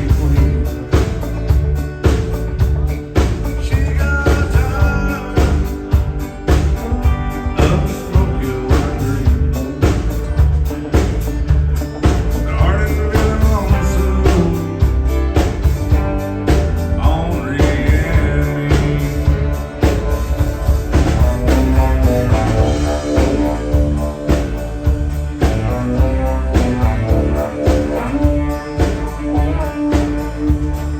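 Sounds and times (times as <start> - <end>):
bass guitar: 0.0 - 30.9
drum beat: 0.0 - 30.9
lead guitar with bending notes: 0.0 - 30.9.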